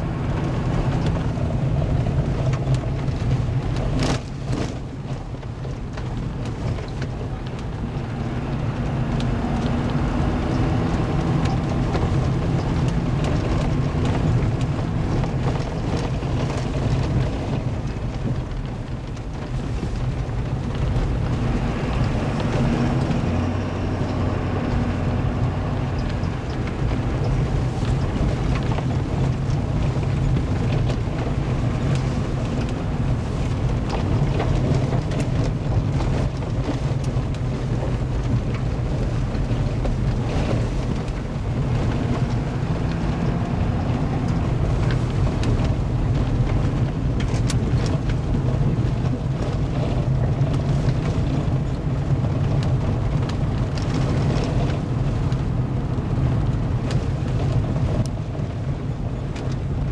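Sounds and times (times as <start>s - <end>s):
engine and drivetrain drone: 0.0s - 59.9s
tyres rumbling on gravel: 0.0s - 59.9s.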